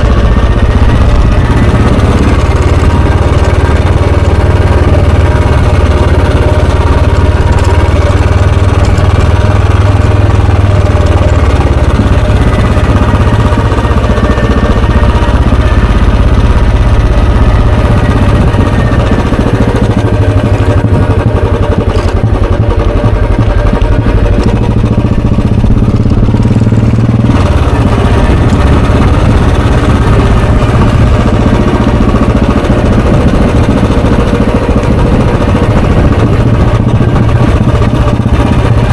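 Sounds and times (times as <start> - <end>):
motorcycle engine thumping: 0.0 - 38.9.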